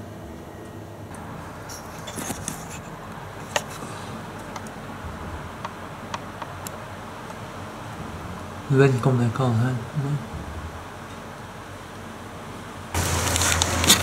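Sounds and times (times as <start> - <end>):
rain shower hiss: 1.1 - 14.0.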